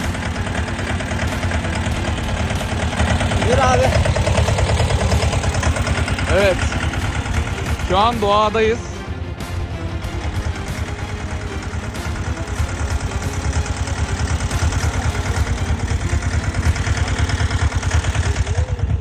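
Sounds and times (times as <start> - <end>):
diesel engine chugging: 0.0 - 19.0
engine clatter: 0.0 - 19.0.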